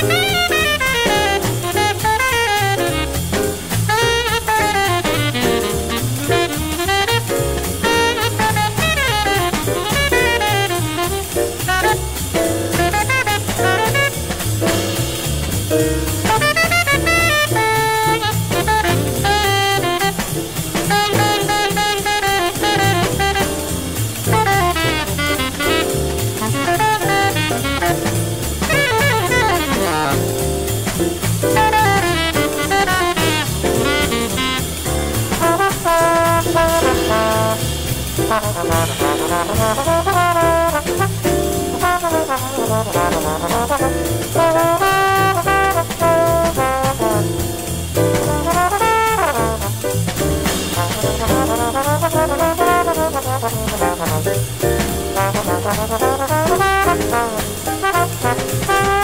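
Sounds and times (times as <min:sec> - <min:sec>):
bass: 0:00.0 - 0:59.0
drum kit: 0:00.0 - 0:59.0
jazz horns: 0:00.0 - 0:59.0
piano: 0:00.0 - 0:59.0.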